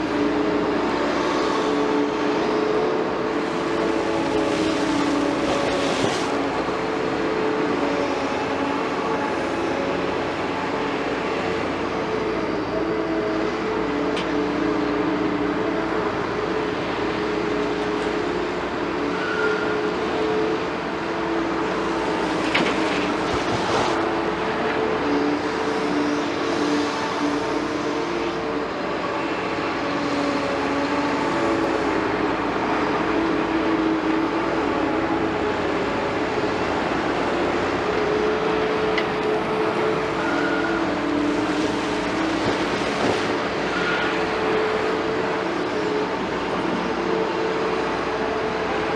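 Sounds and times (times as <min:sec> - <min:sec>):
excavator engine and hydraulics: 0:00.0 - 0:48.9.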